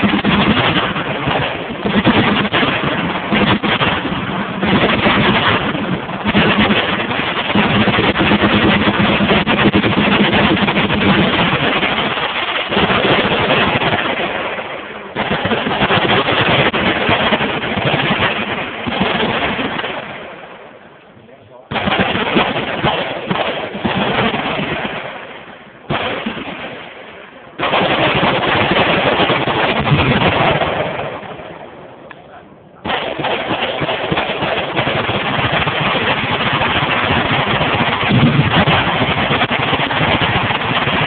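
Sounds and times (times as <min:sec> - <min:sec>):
machine guns firing: 0:00.0 - 0:20.6, 0:21.7 - 0:31.7, 0:32.8 - 0:41.0.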